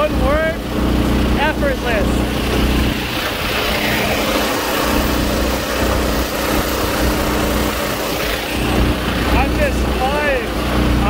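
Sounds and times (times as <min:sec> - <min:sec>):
boat motor running: 0:00.0 - 0:11.0
prop wash and spray rushing: 0:00.0 - 0:11.0.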